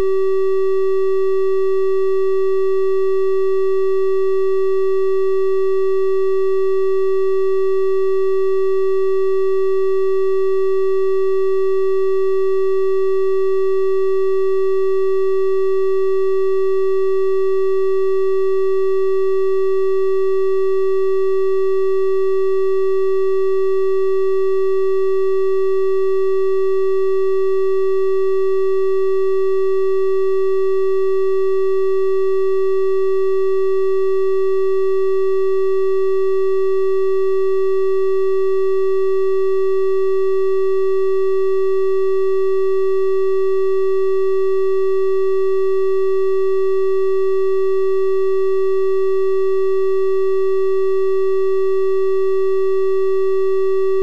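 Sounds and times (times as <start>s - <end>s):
electronic test tone: 10.5s - 54.0s.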